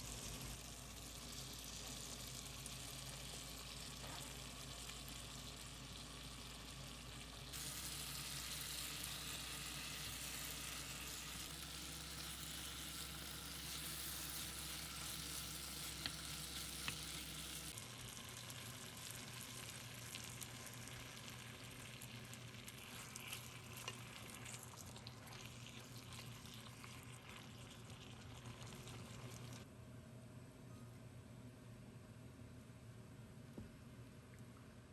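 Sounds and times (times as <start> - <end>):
food sizzling in a pan: 0.0 - 29.6.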